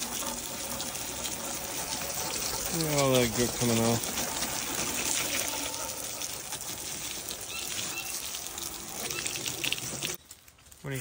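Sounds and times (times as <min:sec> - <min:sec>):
water jet spraying wooden boards: 0:00.0 - 0:10.2.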